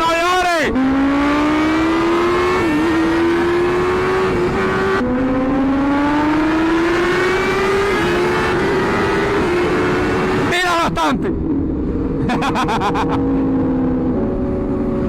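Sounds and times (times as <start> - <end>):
wind and road noise: 0.0 - 15.0
motorcycle engine accelerating: 0.7 - 10.5, 11.3 - 15.0.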